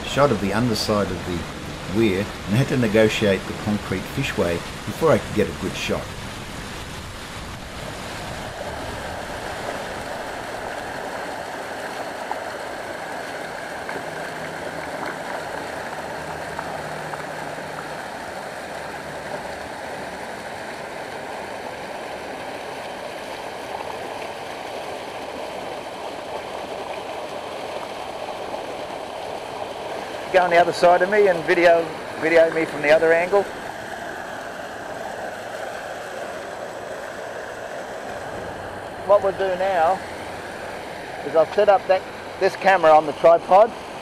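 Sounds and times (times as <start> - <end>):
water rushing over weir: 0.0 - 44.0.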